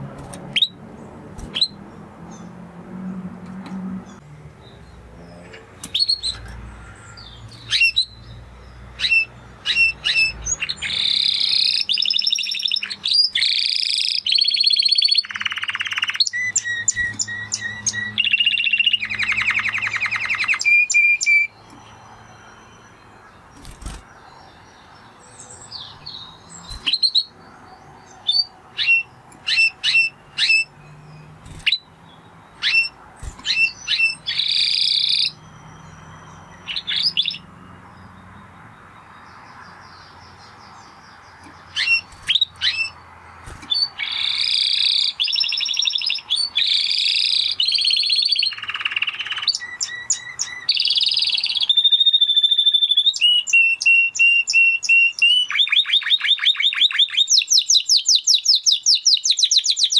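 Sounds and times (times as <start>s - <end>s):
canary singing trills: 0.1s - 2.6s, 4.0s - 59.9s.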